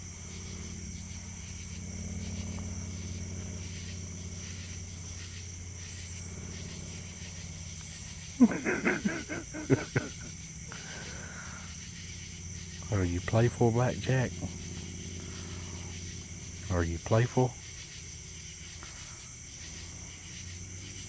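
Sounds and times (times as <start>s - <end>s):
insect chirring: 0.0s - 21.0s
low hum: 0.0s - 21.0s.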